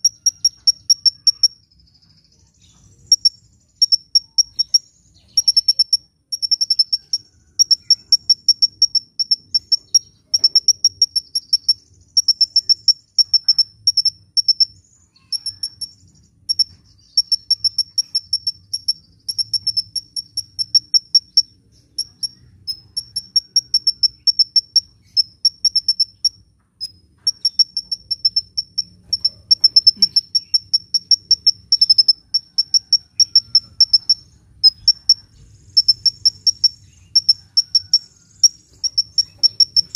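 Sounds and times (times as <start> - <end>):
sunbird high-pitched chirps: 0.0 - 39.9.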